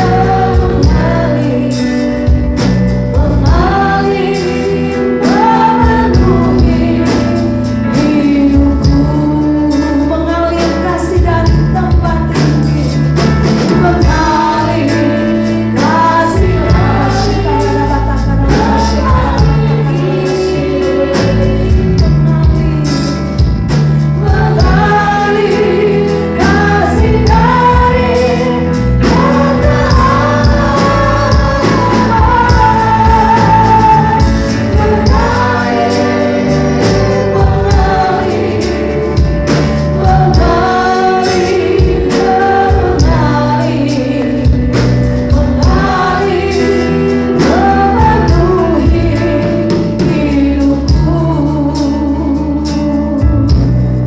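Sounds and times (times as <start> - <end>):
group of voices singing: 0.0 - 53.5
bass: 0.0 - 54.0
drum kit: 0.0 - 54.0.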